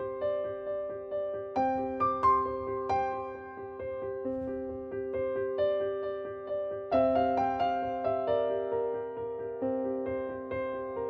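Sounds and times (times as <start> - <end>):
gentle solo piano: 0.0 - 11.0.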